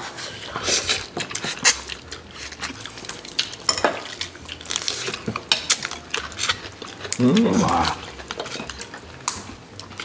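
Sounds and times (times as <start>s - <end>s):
cutlery clinking against dishes: 0.6s - 7.3s, 8.0s - 10.0s.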